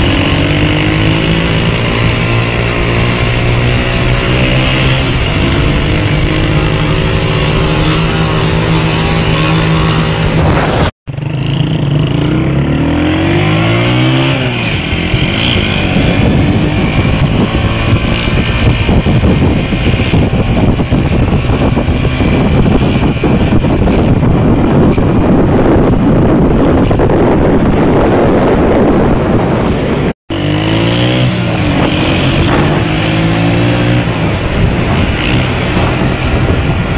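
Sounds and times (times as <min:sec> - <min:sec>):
small motorcycle engine revving: 0:00.0 - 0:36.9
wind noise: 0:00.0 - 0:36.9.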